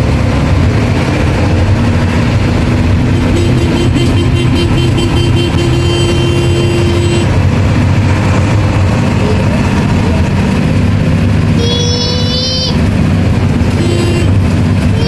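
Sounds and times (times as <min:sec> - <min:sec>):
bus engine droning: 0:00.0 - 0:15.0
road noise: 0:00.0 - 0:15.0.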